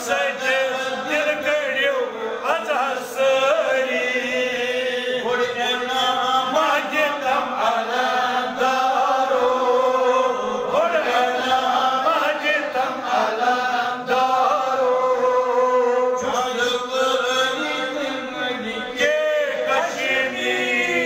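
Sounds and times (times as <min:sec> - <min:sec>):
person chanting: 0:00.0 - 0:21.0.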